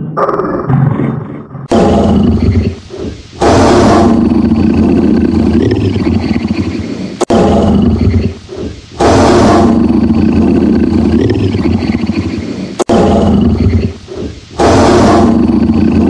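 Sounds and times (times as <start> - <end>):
tiger roaring: 0.0 - 16.0.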